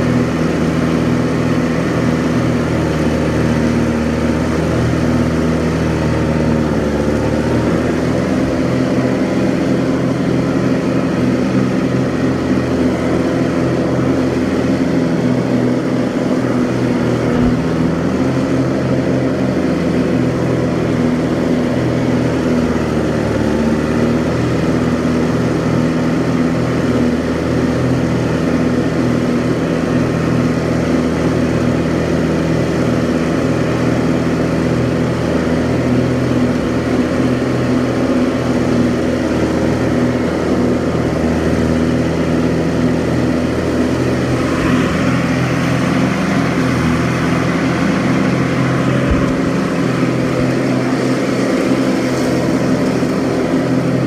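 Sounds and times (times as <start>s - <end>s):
tractor mowing grass: 0.0s - 54.0s.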